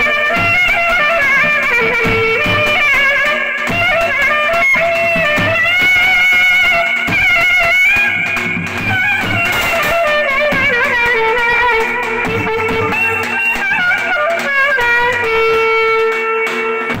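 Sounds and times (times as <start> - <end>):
clarinet folk melody: 0.0 - 17.0.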